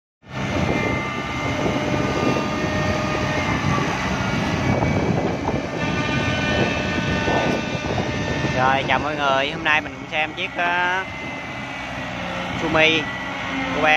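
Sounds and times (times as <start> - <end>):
excavator diesel engine running: 0.3 - 13.9.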